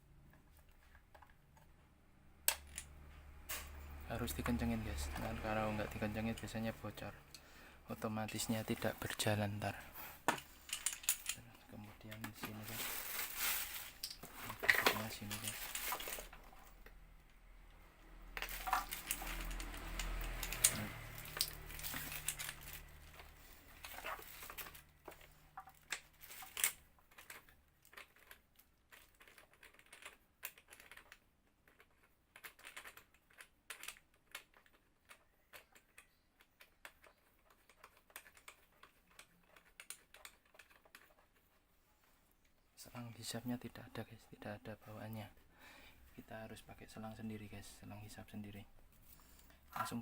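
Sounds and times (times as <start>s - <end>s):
parts clicking and rattling: 0.2s - 41.6s.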